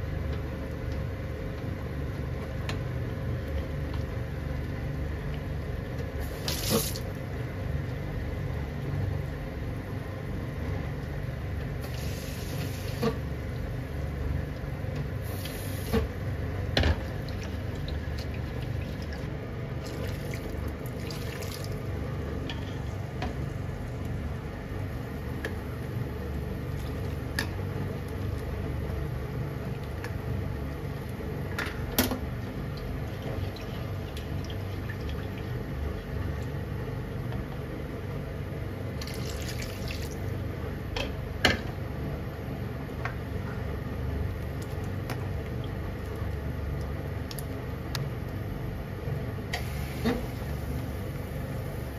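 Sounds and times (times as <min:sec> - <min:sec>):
liquid simmering in a frying pan: 0:00.0 - 0:51.9.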